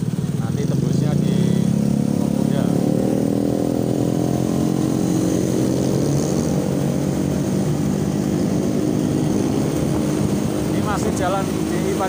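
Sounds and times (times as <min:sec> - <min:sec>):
motor scooter engine running: 0:00.0 - 0:12.0
motorcycles in traffic: 0:00.0 - 0:12.0.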